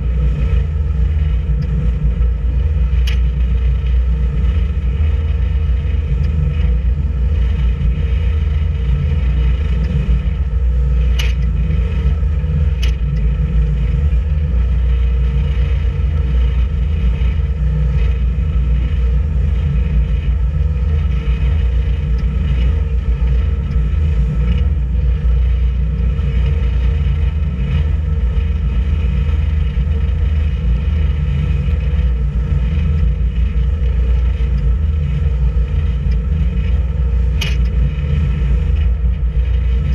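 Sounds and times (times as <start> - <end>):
boat engine rumbling: 0.0 - 39.9.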